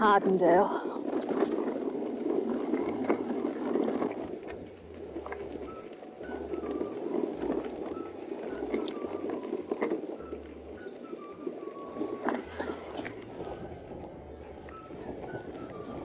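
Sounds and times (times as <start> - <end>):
wind buffeting microphone: 0.0 - 16.0
bicycle tyre noise: 0.8 - 16.0.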